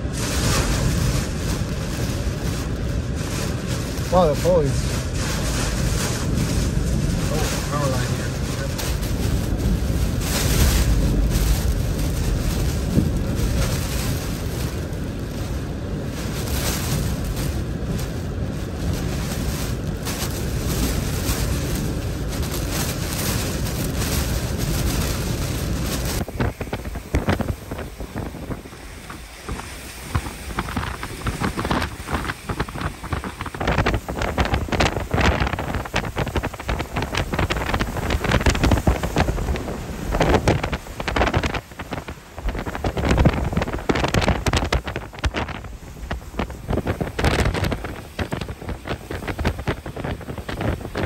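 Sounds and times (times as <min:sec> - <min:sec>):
driving rain: 0:00.0 - 0:51.0
wind buffeting microphone: 0:00.0 - 0:51.0.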